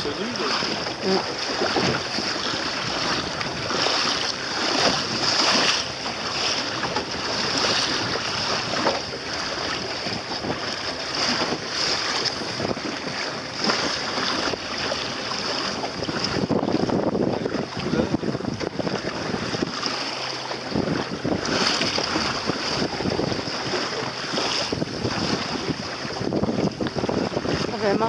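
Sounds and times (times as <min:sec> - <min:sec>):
water rushing along boat hull: 0:00.0 - 0:28.0
wind buffeting microphone: 0:00.0 - 0:28.0.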